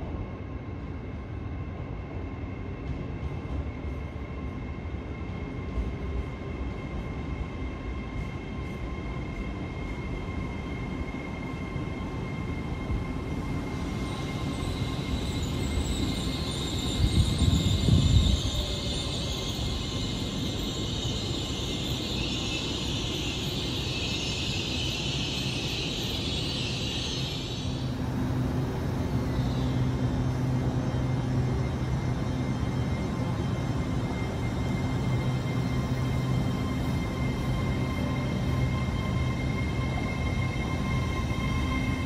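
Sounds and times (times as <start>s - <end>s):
thin train whine: 0.0s - 42.0s
train rumbling: 0.0s - 42.0s
train squealing: 2.8s - 42.0s.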